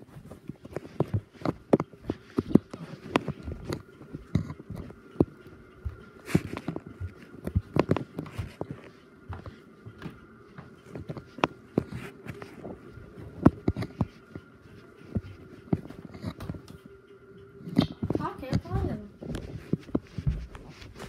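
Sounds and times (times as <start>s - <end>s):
footsteps and knocks: 0.0s - 17.0s, 17.7s - 21.0s
faint steady hum: 0.0s - 21.0s.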